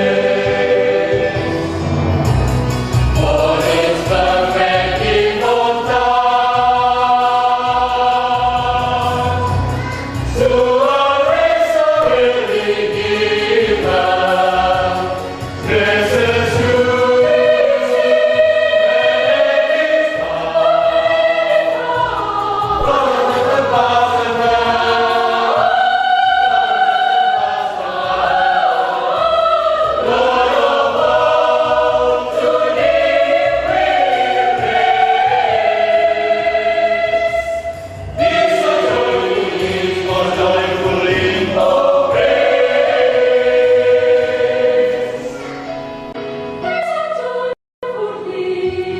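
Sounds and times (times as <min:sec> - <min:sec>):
choir singing: 0:00.0 - 0:48.9.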